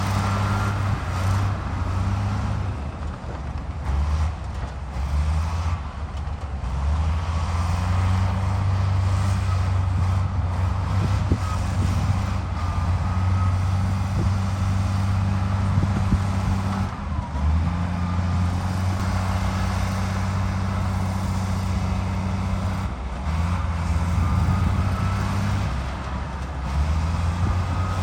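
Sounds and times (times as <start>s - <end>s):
diesel machinery droning: 0.0s - 28.0s.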